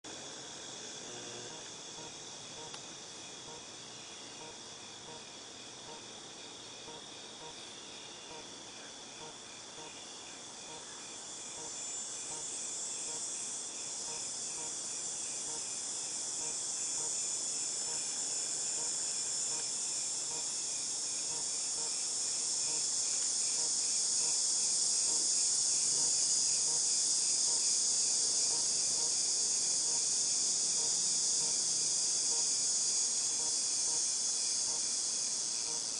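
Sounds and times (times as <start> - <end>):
cicadas droning: 0.1 - 35.9.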